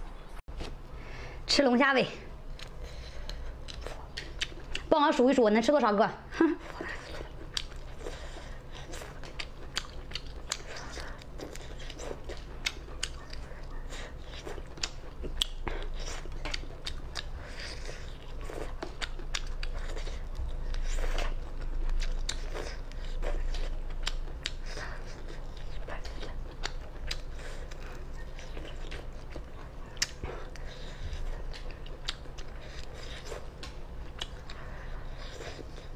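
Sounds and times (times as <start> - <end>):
person biting and chewing: 6.9 - 35.9.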